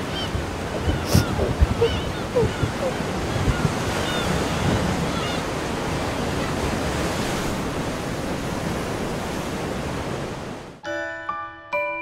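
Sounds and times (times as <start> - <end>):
sea surf: 0.0 - 10.8
strong wind: 0.0 - 10.8.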